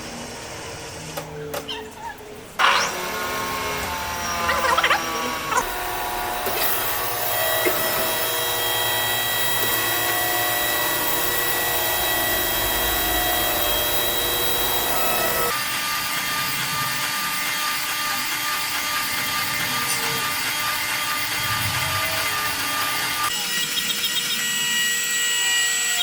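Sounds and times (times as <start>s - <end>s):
electric power tool whining: 2.6s - 26.0s.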